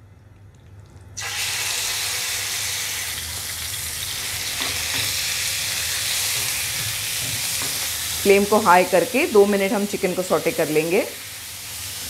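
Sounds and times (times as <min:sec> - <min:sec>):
chicken sizzling in hot oil: 0:01.2 - 0:12.0.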